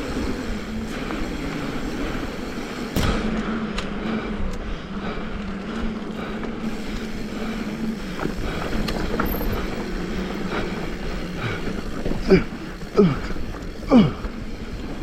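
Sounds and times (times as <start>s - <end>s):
bicycle freewheel ratchet buzzing: 0.0s - 3.7s, 4.8s - 15.0s
tyres rushing on dirt trail: 0.0s - 15.0s.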